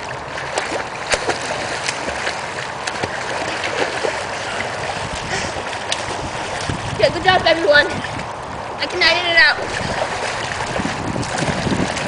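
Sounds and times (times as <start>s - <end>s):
water splashing and churning: 0.0s - 12.0s.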